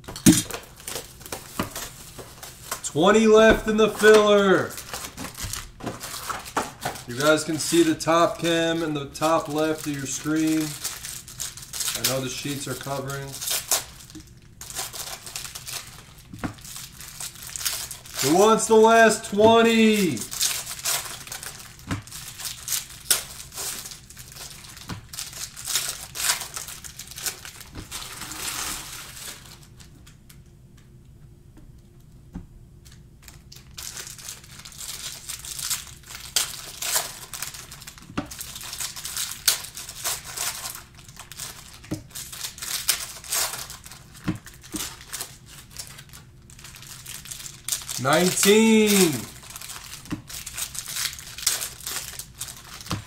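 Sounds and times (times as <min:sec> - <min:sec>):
card pack wrappers crinkling and tearing: 0:00.0 - 0:30.4, 0:32.8 - 0:53.0.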